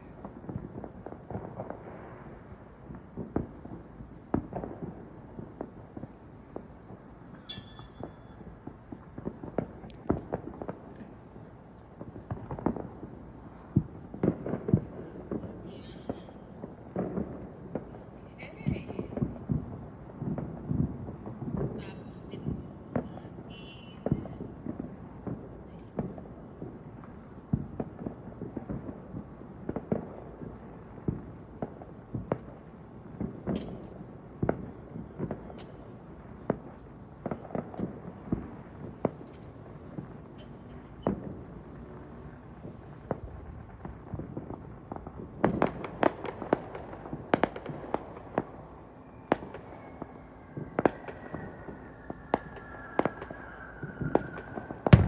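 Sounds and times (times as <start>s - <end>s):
fireworks bangs and pops: 0.0s - 55.0s.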